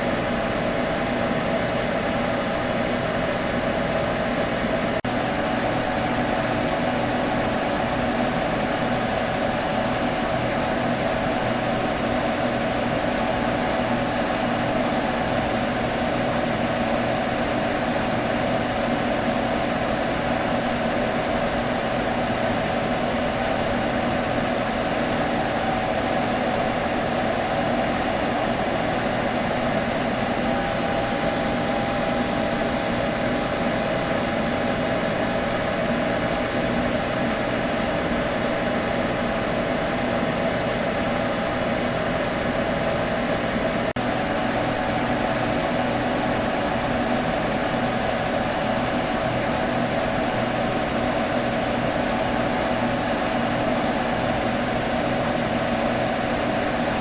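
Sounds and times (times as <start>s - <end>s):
computer fan whirring: 0.0s - 57.0s.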